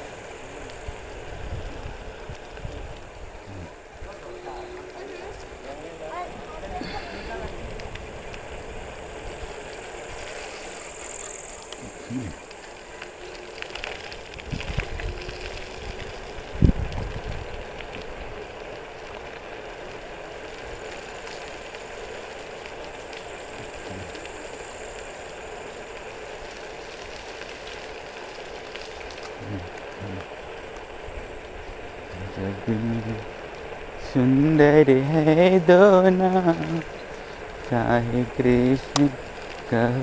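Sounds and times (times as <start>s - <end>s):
wind and road noise: 0.0s - 40.0s.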